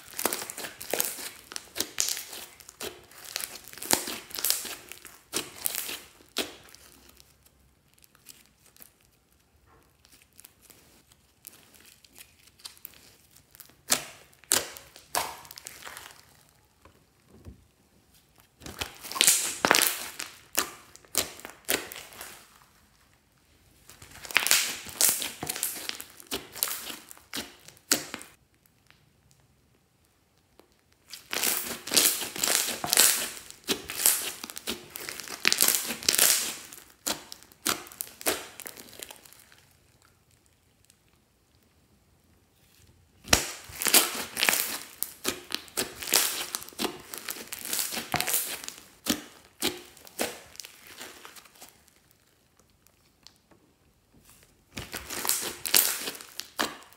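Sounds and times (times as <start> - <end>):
slime crackling and popping: 0.0 - 41.8, 43.1 - 56.9.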